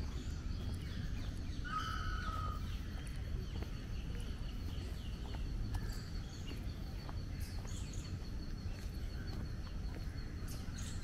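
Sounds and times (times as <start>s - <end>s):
bird chirps: 0.0s - 11.0s
steady low rumble: 0.0s - 11.0s.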